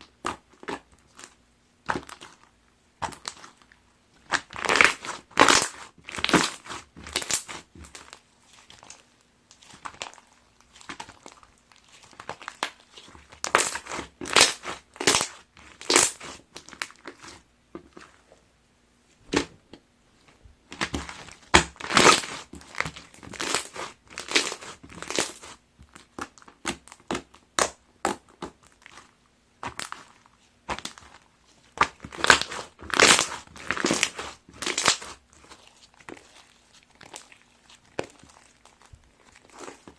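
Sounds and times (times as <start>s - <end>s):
slime crunching and crackling: 0.0s - 18.2s, 20.7s - 39.9s.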